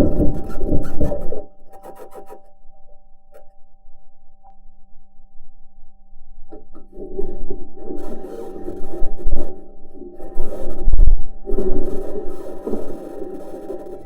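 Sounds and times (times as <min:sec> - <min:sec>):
steady multi-tone hum: 0:00.0 - 0:14.0.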